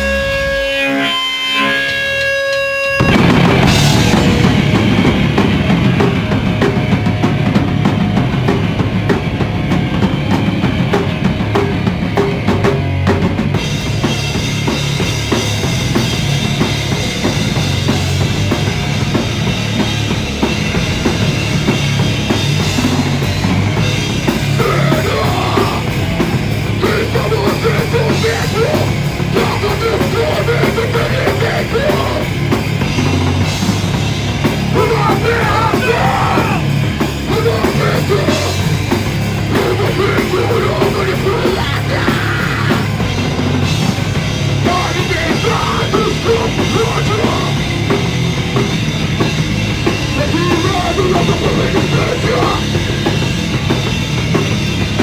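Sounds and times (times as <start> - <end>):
punk rock band playing live: 0.0 - 55.0
drum kit pounding: 1.9 - 55.0.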